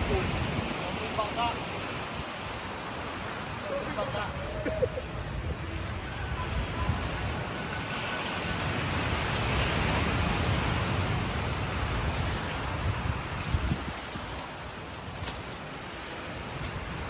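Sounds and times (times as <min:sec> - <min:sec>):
ocean waves washing: 0:00.0 - 0:17.0
wind rumbling on microphone: 0:00.0 - 0:17.0.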